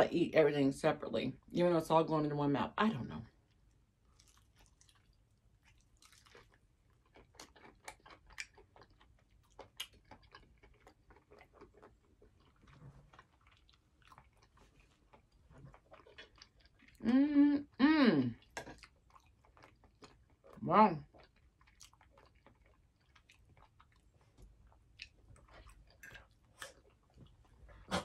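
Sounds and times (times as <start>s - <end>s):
chewing with crunches: 3.4s - 28.0s.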